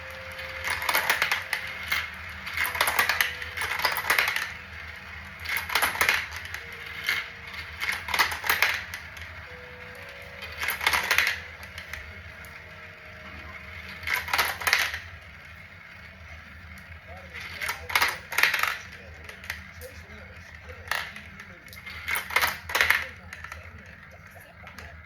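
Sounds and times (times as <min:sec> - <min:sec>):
marbles clattering on tracks: 0:00.0 - 0:25.0.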